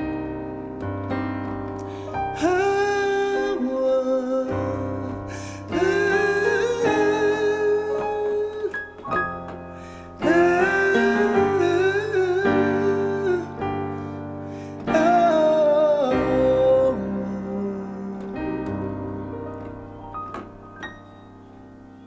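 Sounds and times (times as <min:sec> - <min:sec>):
instrumental backing: 0:00.0 - 0:22.0
singer holding wordless notes: 0:00.0 - 0:22.0.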